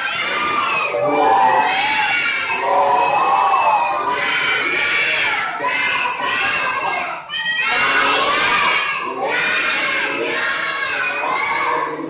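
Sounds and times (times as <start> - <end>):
children chanting loudly: 0.0 - 12.0.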